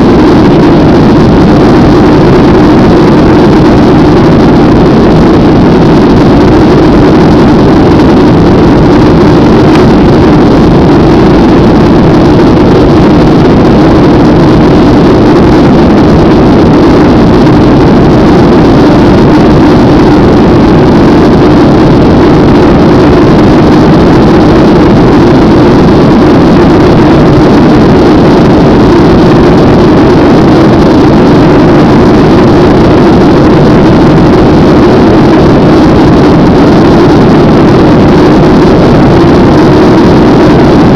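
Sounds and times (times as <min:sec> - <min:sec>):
jet engines droning in flight: 0:00.0 - 0:40.9.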